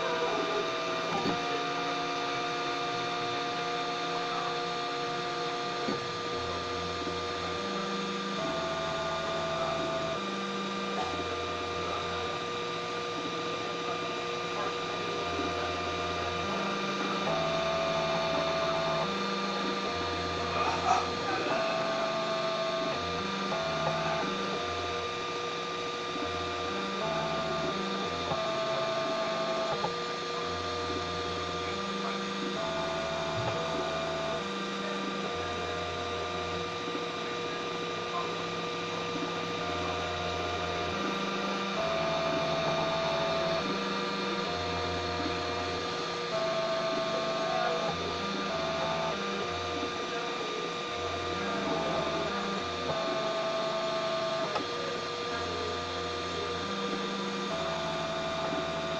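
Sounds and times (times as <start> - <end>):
steady hum: 0.0 - 58.9
stepper motors whining: 0.0 - 58.9.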